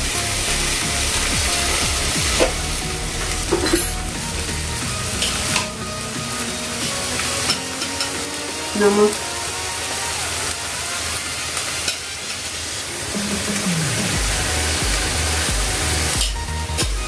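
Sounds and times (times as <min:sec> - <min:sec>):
food sizzling in hot oil: 0:00.0 - 0:16.8.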